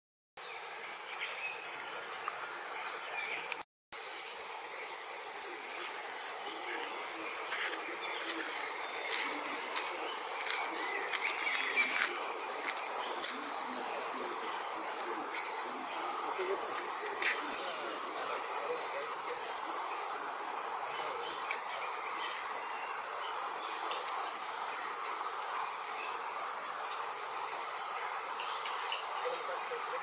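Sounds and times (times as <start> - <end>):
insects droning: 0.4 - 30.0.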